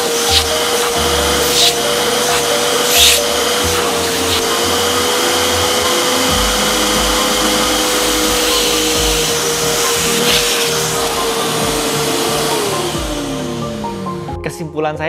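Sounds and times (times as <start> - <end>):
vacuum cleaner running: 0.0 - 14.4.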